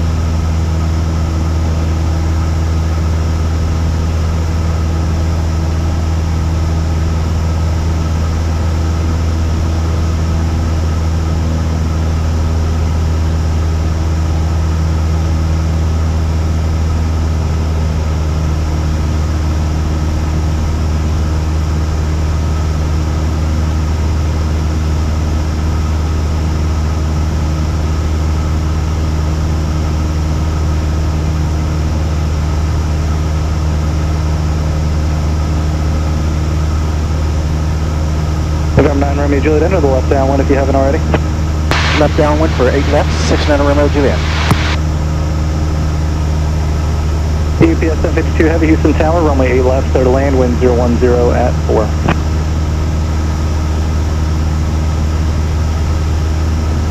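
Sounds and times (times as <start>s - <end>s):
propeller plane engine droning: 0.0s - 56.9s.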